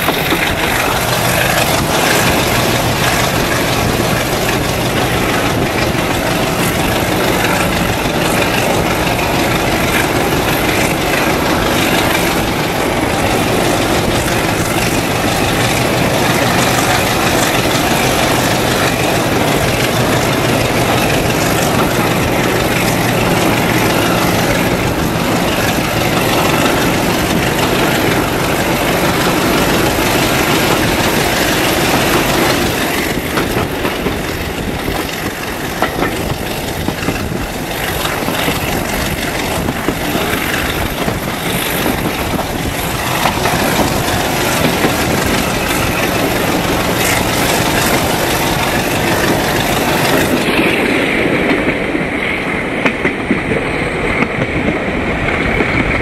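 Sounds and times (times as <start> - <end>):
diesel locomotive engine: 0.0 - 56.0
train coaches running noise: 0.0 - 56.0.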